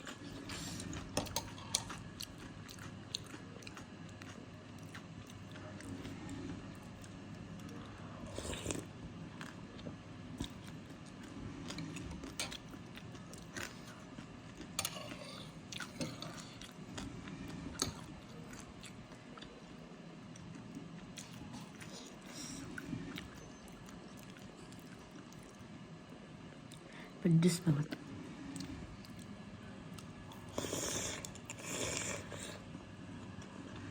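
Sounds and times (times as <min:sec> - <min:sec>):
close chewing of noodle soup: 0:00.0 - 0:25.7, 0:28.6 - 0:33.9.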